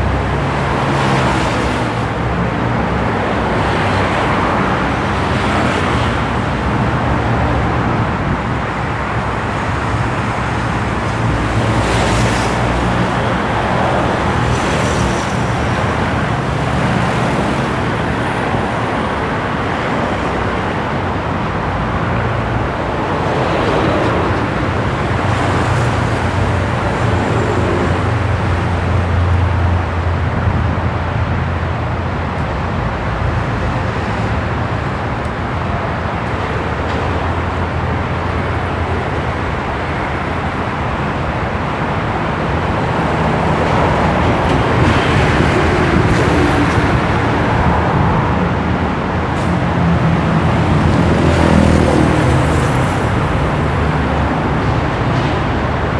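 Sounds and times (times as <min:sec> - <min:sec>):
road traffic rumble: 0:00.0 - 0:55.9
vehicles passing: 0:00.0 - 0:55.9.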